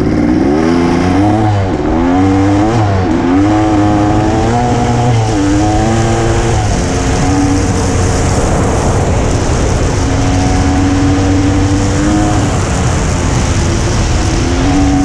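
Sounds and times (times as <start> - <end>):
motorcycle engine revving: 0.0 - 15.0
road noise: 0.0 - 15.0
wind noise: 0.0 - 15.0.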